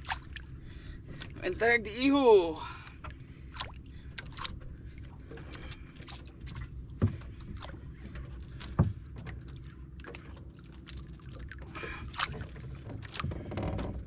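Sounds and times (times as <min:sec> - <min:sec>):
boat engine low hum: 0:00.0 - 0:14.0.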